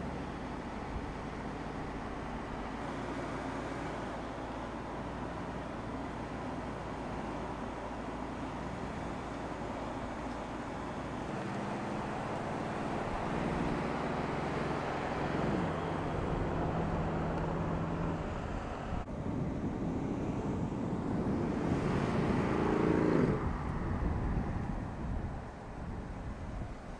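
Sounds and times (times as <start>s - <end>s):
car engine running at speed: 0.0s - 26.7s
road and wind noise: 0.0s - 26.9s.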